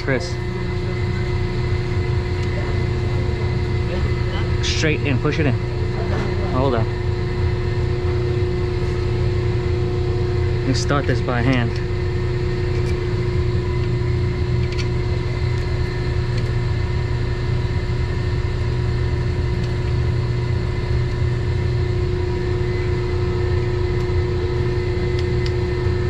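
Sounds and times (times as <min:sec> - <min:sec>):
equipment humming drone: 0:00.0 - 0:26.0.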